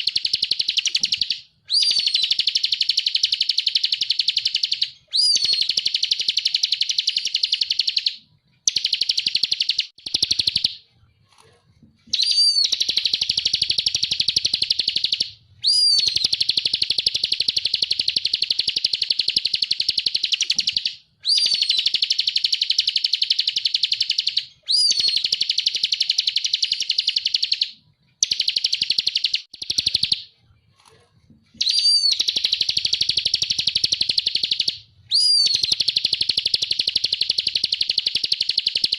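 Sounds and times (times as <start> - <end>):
bird singing fast trills: 0.0 - 10.8, 12.1 - 30.3, 31.6 - 38.9.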